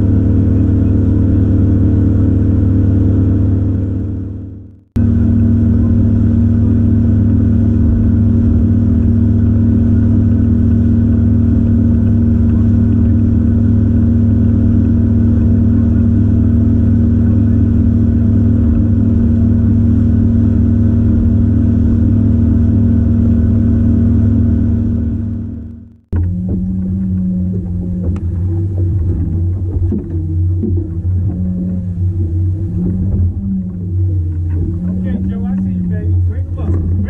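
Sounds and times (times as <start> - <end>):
outboard motor droning: 0.0 - 37.0.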